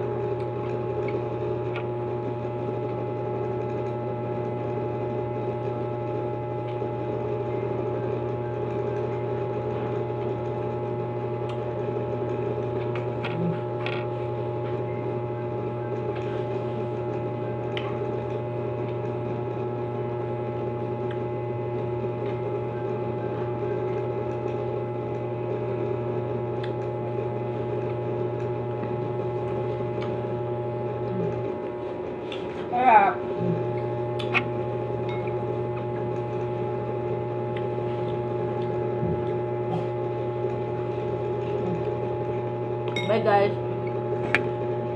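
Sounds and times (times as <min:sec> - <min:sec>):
mechanical hum: 0:00.0 - 0:44.9.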